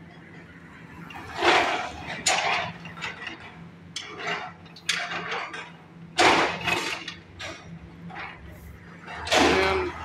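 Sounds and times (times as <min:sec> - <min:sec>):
excavator engine hum: 0:00.0 - 0:10.0.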